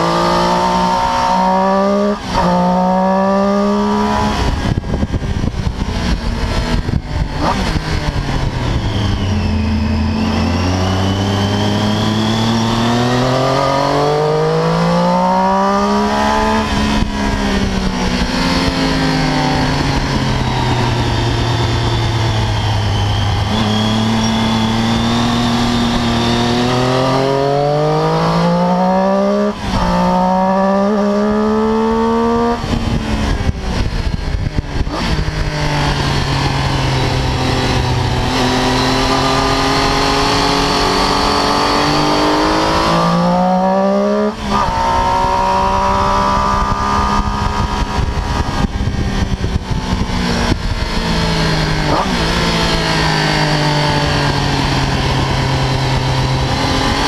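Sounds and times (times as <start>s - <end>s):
motorcycle engine at speed: 0.0s - 57.0s.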